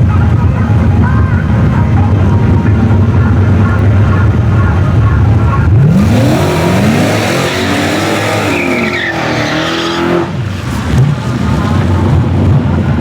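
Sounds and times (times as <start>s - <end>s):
car engine accelerating hard: 2.2s - 13.0s.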